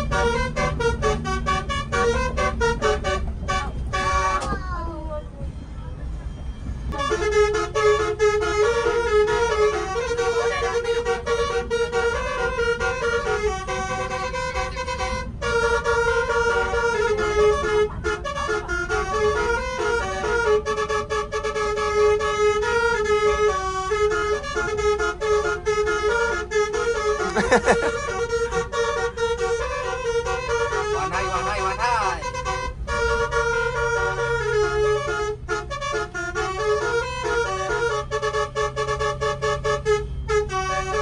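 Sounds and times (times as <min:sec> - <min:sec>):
musical air horn tune: 0:00.0 - 0:04.5, 0:06.9 - 0:41.0.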